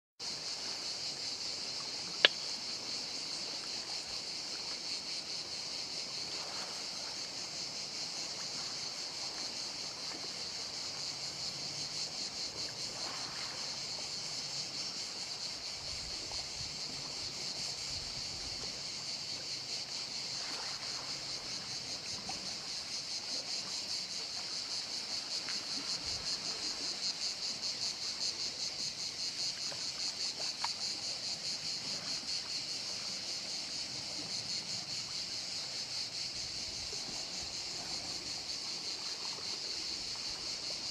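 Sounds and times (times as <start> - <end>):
insects chirring: 0.2 - 40.9.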